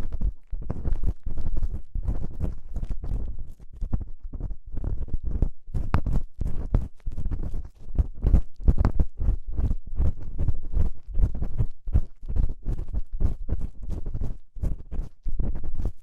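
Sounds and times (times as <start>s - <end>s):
ear-cleaning tool scraping microphone: 0.0s - 16.0s.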